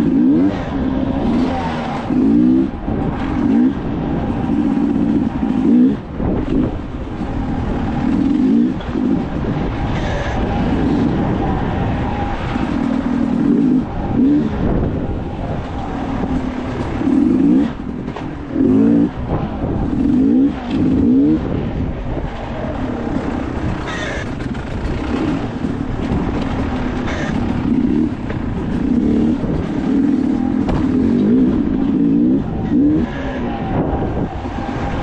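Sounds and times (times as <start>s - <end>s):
engine revving: 0.0s - 35.0s.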